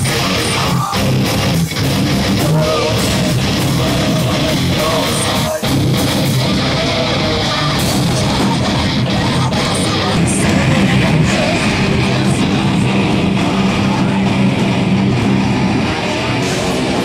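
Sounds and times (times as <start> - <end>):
bass guitar: 0.0 - 17.0
electric guitar: 0.0 - 17.0
heavy metal band playing live: 0.0 - 17.0.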